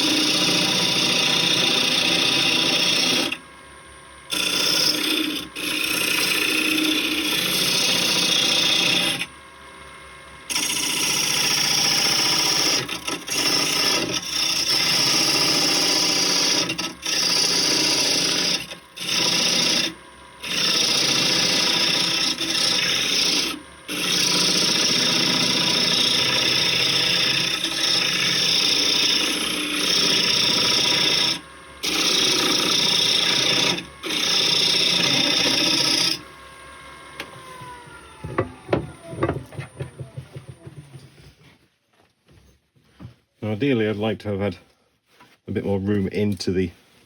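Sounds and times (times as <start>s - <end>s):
lathe spinning down whine: 0.0s - 41.0s
lathe tool scraping wood: 0.0s - 41.6s.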